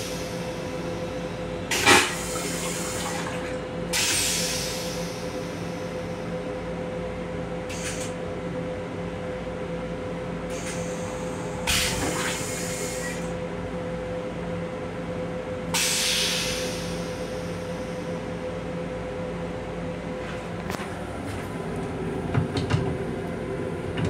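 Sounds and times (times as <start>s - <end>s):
electric railcar humming: 0.0s - 24.0s.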